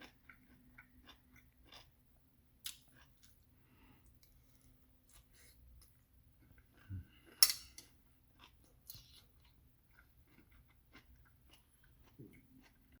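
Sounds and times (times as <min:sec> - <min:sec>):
soft chewing and mouth sounds: 0:00.0 - 0:13.0.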